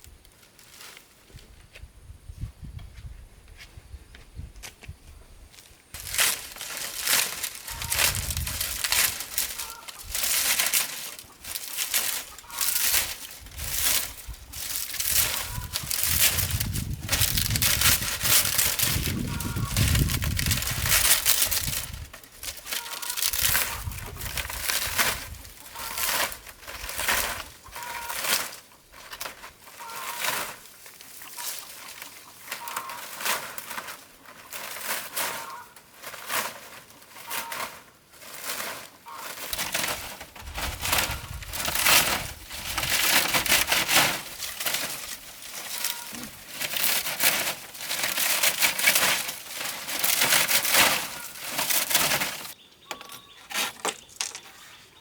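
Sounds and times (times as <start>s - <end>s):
dry material crackling and crunching: 5.6s - 54.7s.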